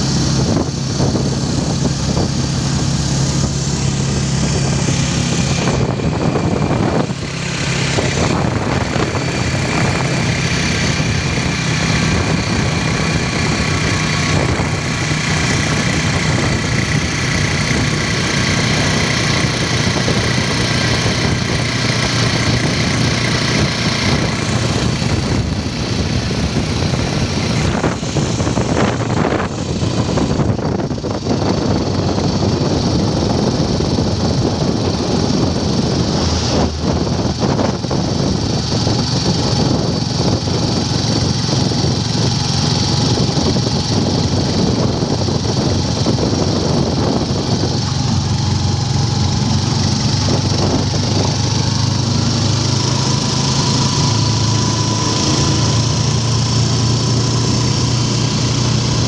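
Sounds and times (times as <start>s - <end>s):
deep engine hum: 0.0s - 59.0s
motorcycle engine running: 0.0s - 59.0s
wind and road hiss: 0.0s - 59.0s.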